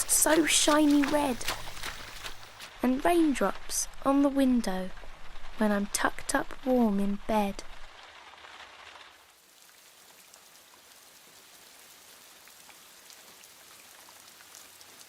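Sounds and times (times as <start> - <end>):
raindrops ticking: 0.0 - 8.0, 9.5 - 15.0
light rain pattering: 0.0 - 15.0.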